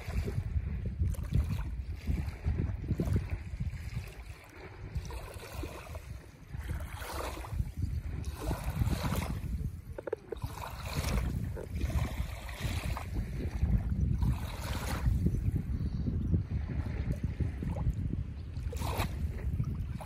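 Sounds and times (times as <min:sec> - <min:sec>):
small waves lapping on shore: 0:00.0 - 0:15.7, 0:16.4 - 0:20.0
wind buffeting microphone: 0:00.0 - 0:20.0.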